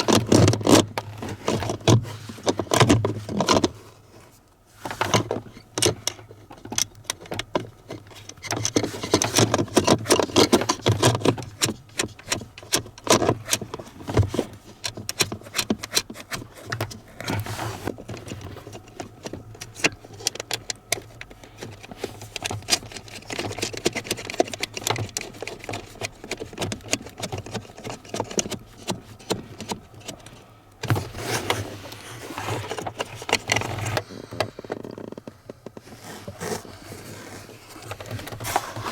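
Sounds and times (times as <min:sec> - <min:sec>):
parts clicking and rattling: 0:00.0 - 0:03.8, 0:04.9 - 0:36.6.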